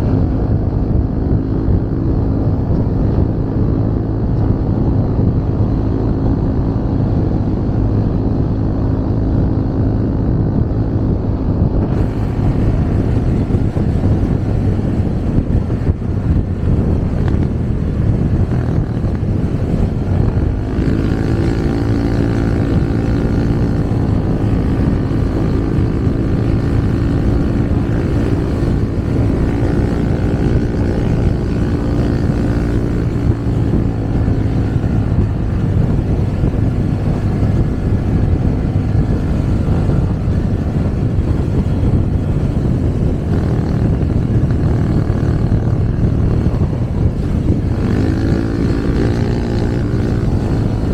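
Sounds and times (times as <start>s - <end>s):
humming engine note: 0.0s - 50.9s
motorcycle engine rumble: 0.0s - 50.9s
road and wind noise: 0.0s - 50.9s.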